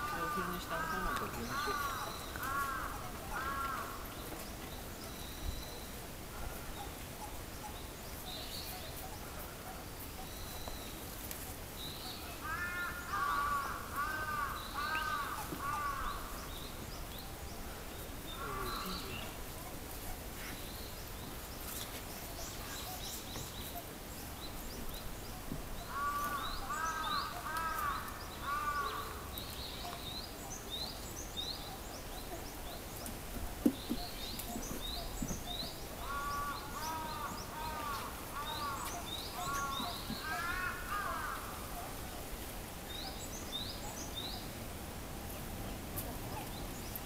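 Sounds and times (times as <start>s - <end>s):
loud repeated bird calls: 0.0s - 44.5s
small birds chirping: 0.0s - 47.0s.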